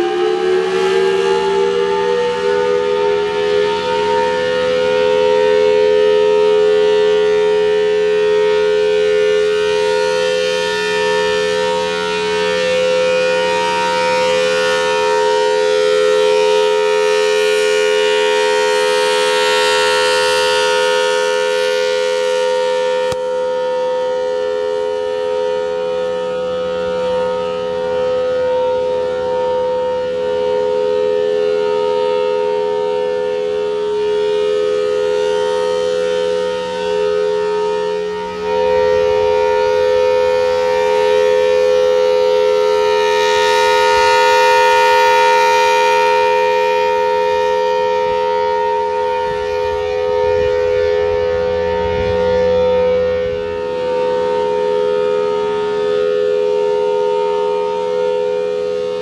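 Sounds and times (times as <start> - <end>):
dual-tone rotating siren: 0.0 - 59.0.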